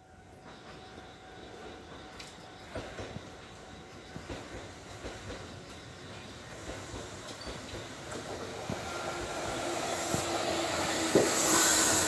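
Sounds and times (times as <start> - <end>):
electric train running: 0.4 - 12.0.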